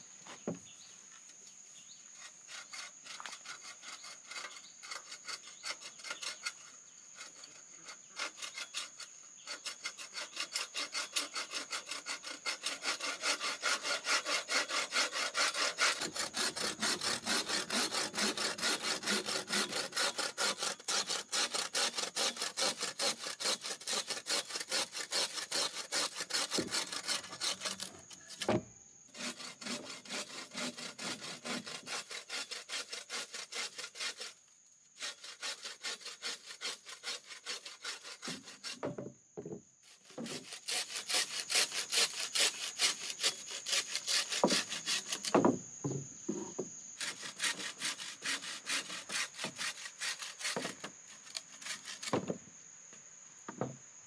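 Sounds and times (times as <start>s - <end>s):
hand saw cutting wood: 2.2s - 39.0s, 39.8s - 45.6s, 47.0s - 52.4s.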